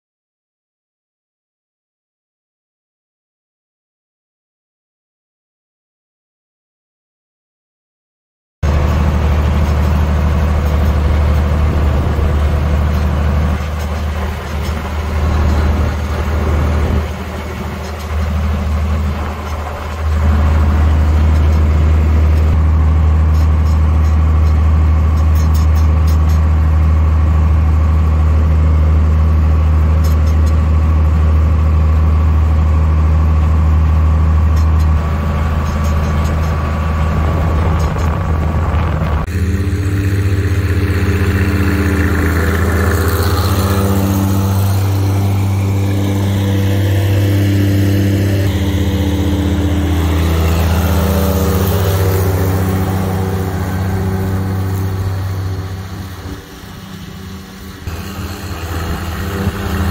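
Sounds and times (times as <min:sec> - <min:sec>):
tractor engine droning: 0:08.6 - 0:59.9.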